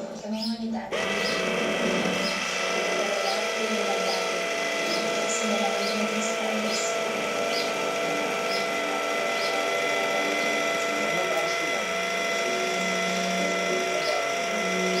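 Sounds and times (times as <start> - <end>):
actuator motor whining and grinding: 0.8 - 15.0.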